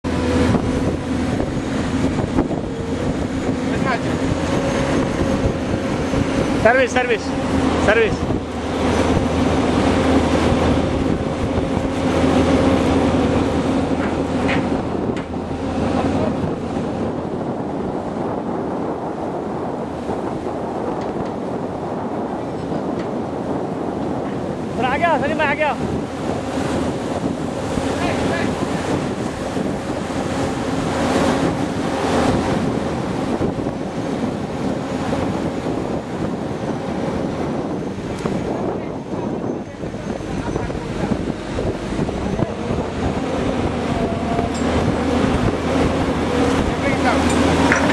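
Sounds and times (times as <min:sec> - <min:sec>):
surf washing on shore: 0:00.0 - 0:47.9
wind buffeting microphone: 0:00.0 - 0:47.9
construction machinery engine droning: 0:00.1 - 0:47.9.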